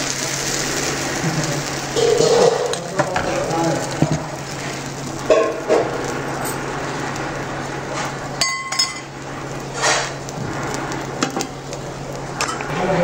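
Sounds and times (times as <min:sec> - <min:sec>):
batter hissing on hot griddle: 0:00.0 - 0:13.0.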